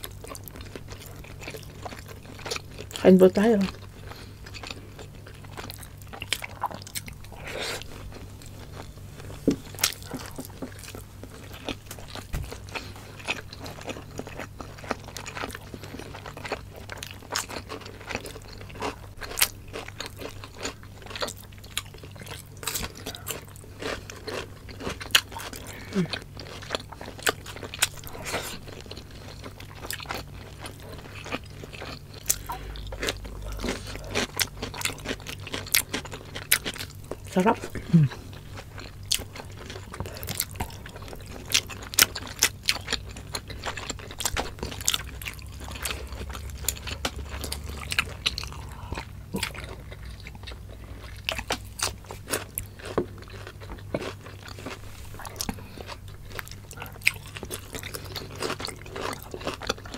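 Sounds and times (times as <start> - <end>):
people chewing and crunching: 0.0 - 59.9
steady low hum: 0.0 - 59.9.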